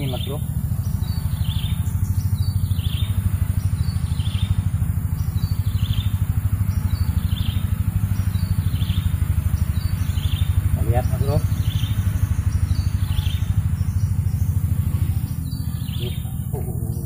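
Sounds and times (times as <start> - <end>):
bird chirping: 0.0 - 17.0
small engine running: 0.0 - 17.0.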